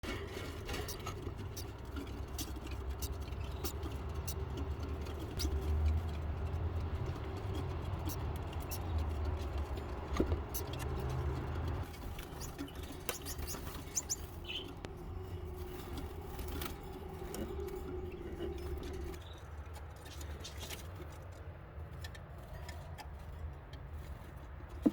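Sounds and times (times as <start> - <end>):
baby birds peeping: 0.0 - 21.2
clicks and scratches of movement: 0.0 - 24.9.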